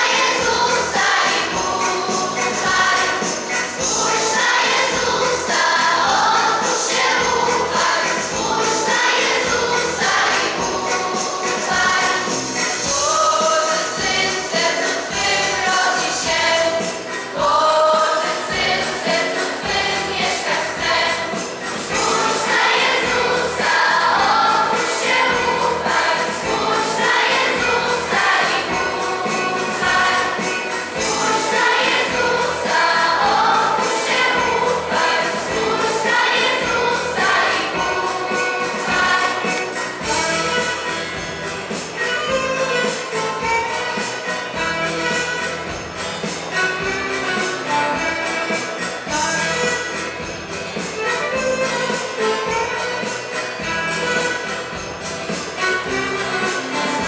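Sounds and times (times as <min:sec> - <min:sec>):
beat-driven accompaniment: 0:00.0 - 0:57.0
choir singing a carol: 0:00.0 - 0:57.0
jingling percussion: 0:00.0 - 0:57.0.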